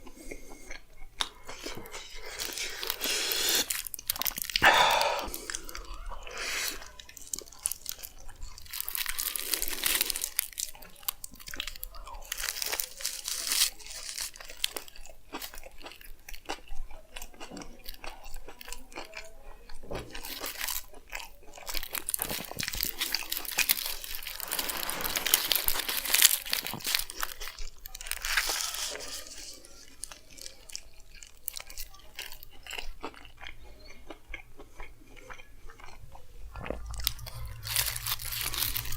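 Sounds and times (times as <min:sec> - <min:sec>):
close-up chewing and biting: 0:00.0 - 0:38.9.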